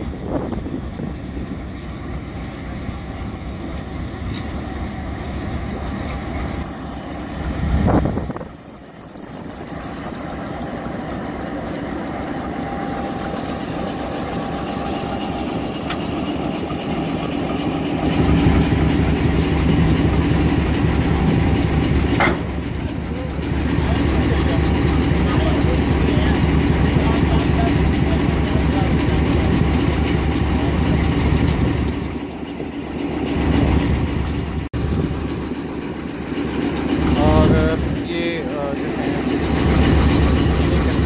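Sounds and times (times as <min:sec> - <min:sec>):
locomotive engine running: 0:00.0 - 0:41.0.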